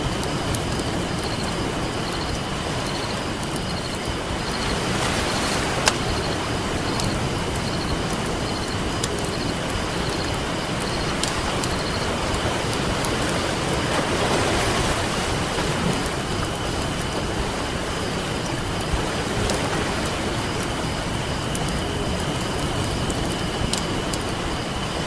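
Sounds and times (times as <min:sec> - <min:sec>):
campfire crackling: 0:00.0 - 0:25.0
ocean surf washing: 0:00.0 - 0:25.0.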